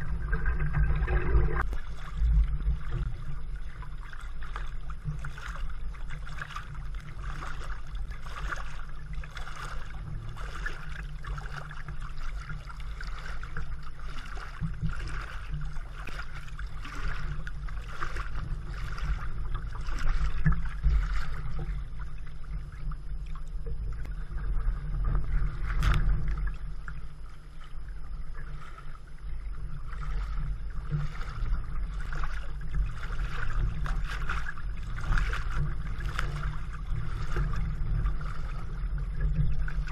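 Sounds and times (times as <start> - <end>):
steady low rumble: 0.0 - 39.9
water splashing against kayak: 0.0 - 39.9.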